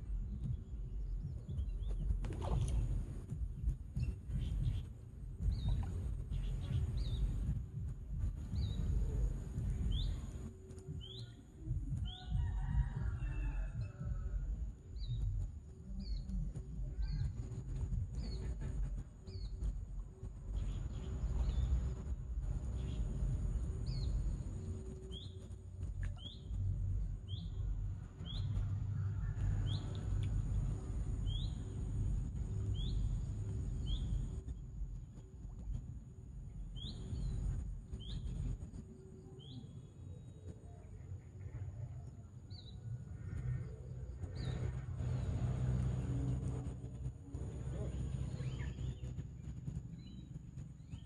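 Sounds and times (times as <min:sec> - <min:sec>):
low uneven rumble: 0:00.0 - 0:51.0.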